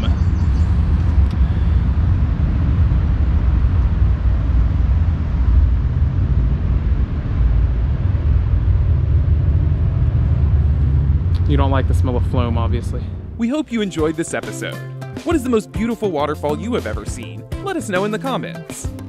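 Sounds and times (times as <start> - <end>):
low outdoor rumbling: 0.0 - 19.0.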